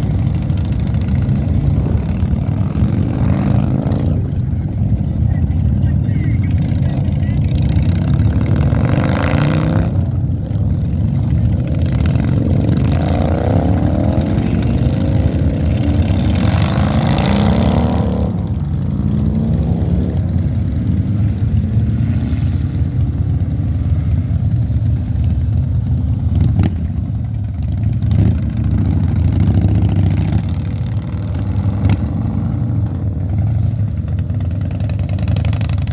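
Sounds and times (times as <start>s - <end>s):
motorcycles riding past: 0.0s - 35.9s.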